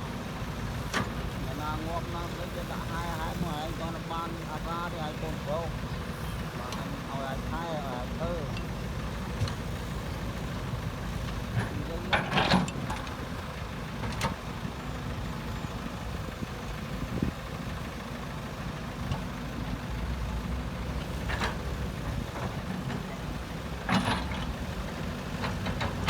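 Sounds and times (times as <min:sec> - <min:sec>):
diesel construction machinery rumbling: 0:00.0 - 0:26.0.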